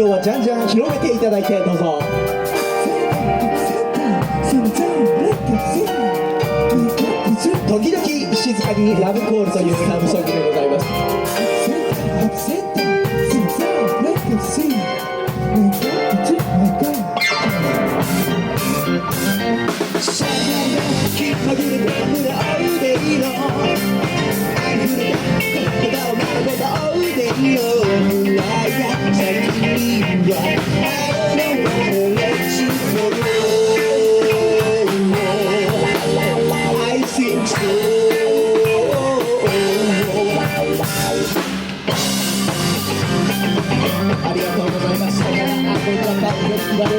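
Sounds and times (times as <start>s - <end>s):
live rock-pop band playing: 0.0s - 46.9s.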